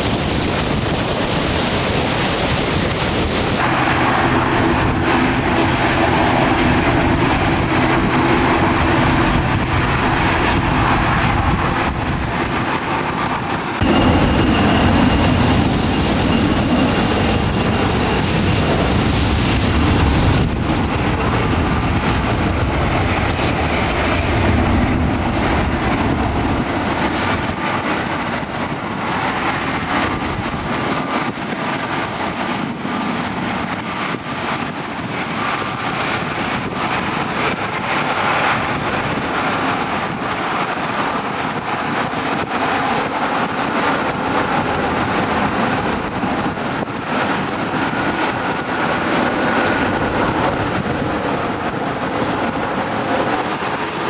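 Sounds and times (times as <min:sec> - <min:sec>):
jet engines roaring at takeoff: 0:00.0 - 0:54.0.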